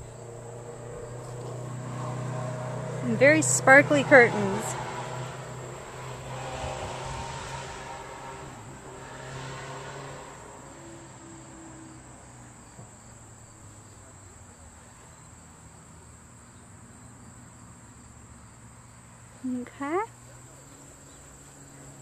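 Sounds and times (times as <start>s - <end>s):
insects droning: 0.0s - 22.0s
passing traffic rumble: 0.0s - 22.0s.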